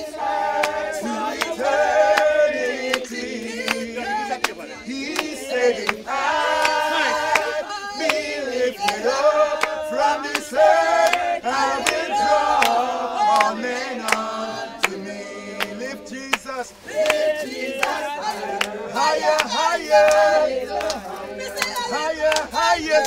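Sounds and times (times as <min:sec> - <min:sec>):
group singing gospel song: 0:00.0 - 0:23.0.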